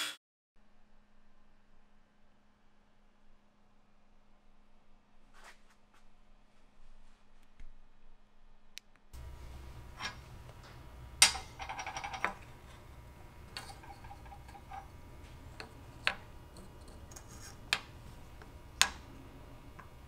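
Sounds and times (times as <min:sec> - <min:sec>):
faint low hum: 0:00.6 - 0:20.0.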